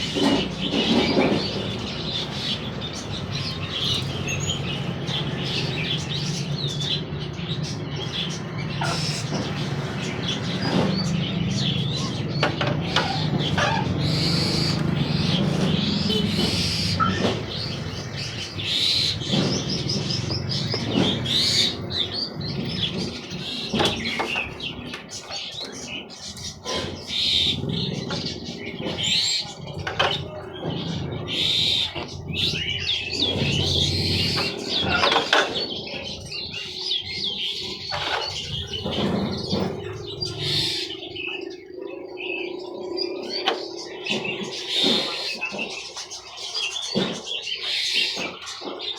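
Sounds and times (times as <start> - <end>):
songbirds chirping and whistling: 0.0 - 48.9.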